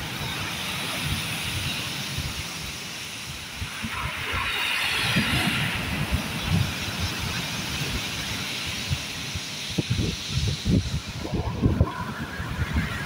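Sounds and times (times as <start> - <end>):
waves washing over pebbles: 0.0 - 13.0
wind buffeting microphone: 0.0 - 13.0.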